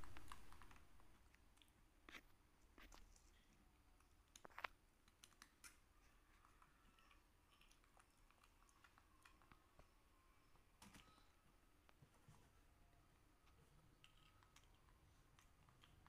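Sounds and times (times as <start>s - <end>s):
crackers being chewed: 0.0s - 11.1s, 13.2s - 16.0s.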